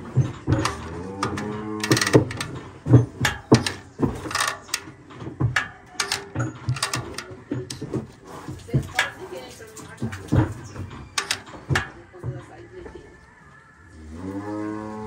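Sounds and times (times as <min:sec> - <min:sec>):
knocks and clanks in metal chute: 0:00.0 - 0:12.7.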